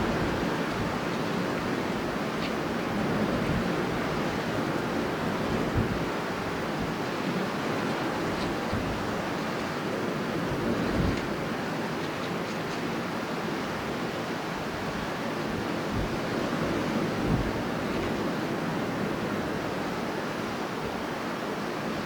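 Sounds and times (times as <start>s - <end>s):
strong wind roaring: 0.0s - 22.0s.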